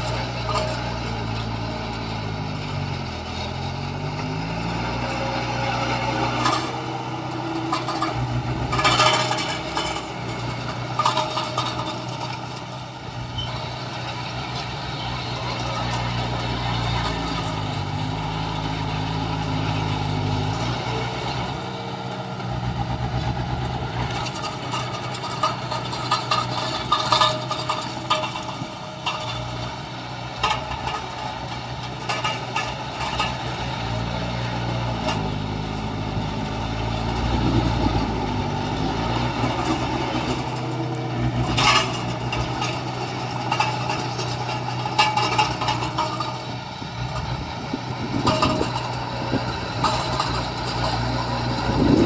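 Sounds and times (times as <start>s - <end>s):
heavy diesel machinery running: 0.0s - 52.0s
metallic clanks and clatter: 0.0s - 52.0s.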